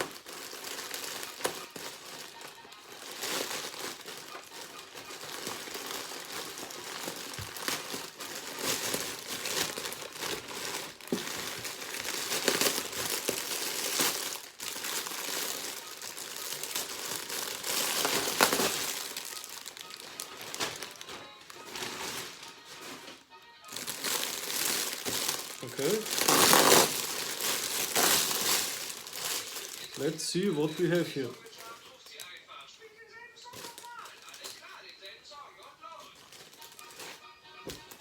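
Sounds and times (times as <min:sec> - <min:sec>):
packaging crinkling and rustling: 0:00.0 - 0:32.6, 0:33.4 - 0:35.2, 0:35.8 - 0:38.0.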